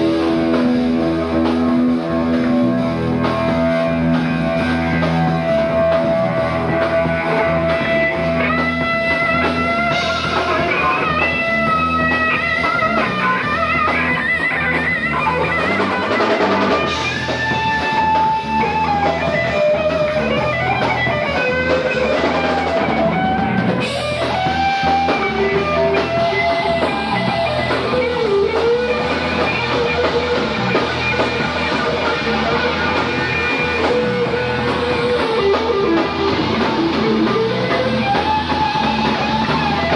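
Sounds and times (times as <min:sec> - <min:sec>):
drum kit: 0:00.0 - 0:39.9
electric guitar lead: 0:00.0 - 0:39.9.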